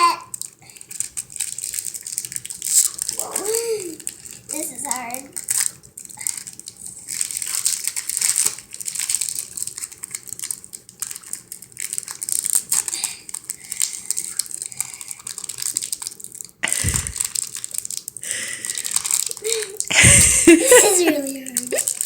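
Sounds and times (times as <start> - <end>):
wrapper crinkling and tearing: 0.0 - 22.0.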